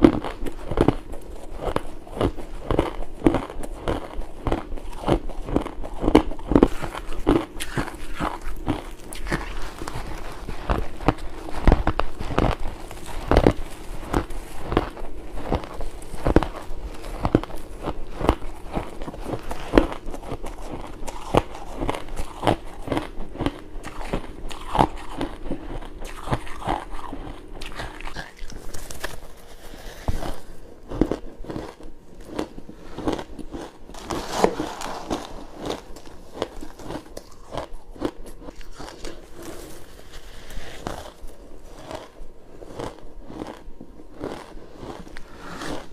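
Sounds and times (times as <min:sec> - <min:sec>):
crunching ice between teeth: 0:00.0 - 0:29.3, 0:30.1 - 0:39.8, 0:40.8 - 0:45.9.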